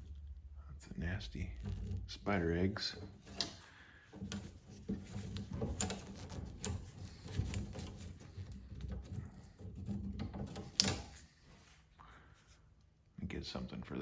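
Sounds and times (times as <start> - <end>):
hands handling tools and parts: 1.3 - 13.0.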